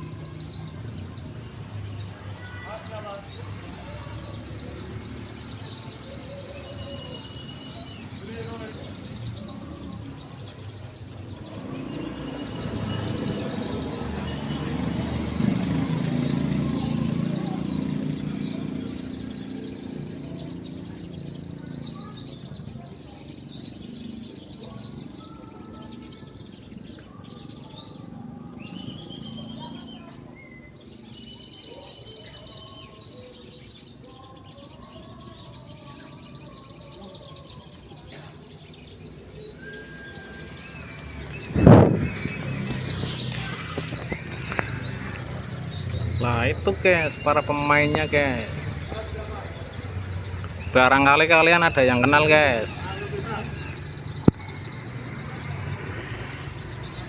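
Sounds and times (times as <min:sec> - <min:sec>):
caged birds chirping and trilling: 0:00.0 - 0:57.0
murmur of crowd voices: 0:00.0 - 0:57.0.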